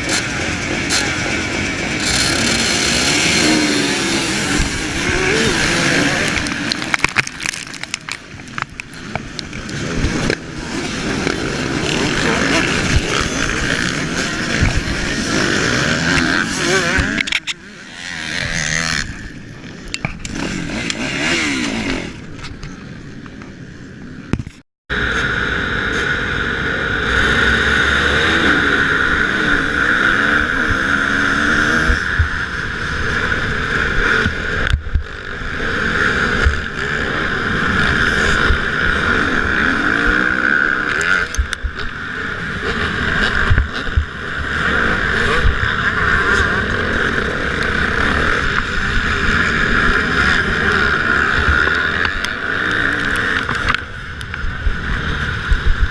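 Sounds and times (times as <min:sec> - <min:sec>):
motocross bike engines revving: 0:00.0 - 0:24.2, 0:24.9 - 0:55.9.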